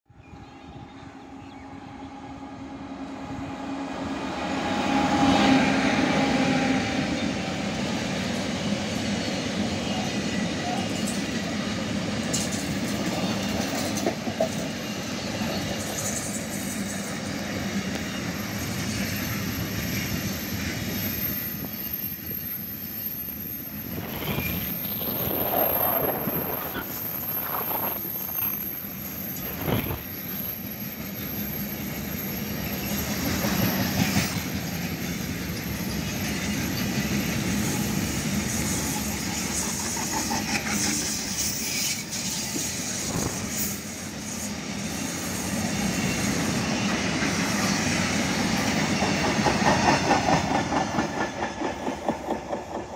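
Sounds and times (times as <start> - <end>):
freight train wagons rolling past: 0.3 - 52.9.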